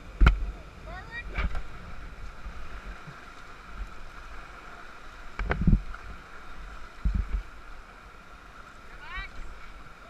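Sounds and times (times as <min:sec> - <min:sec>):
river water washing against raft: 0:00.0 - 0:10.0.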